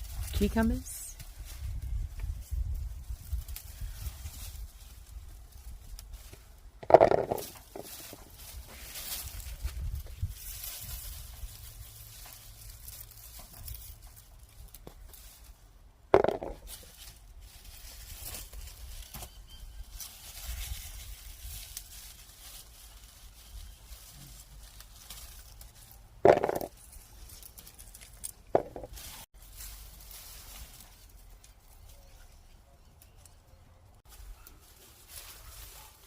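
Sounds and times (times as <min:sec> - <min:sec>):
leaves rustling and crinkling: 0:00.0 - 0:36.0.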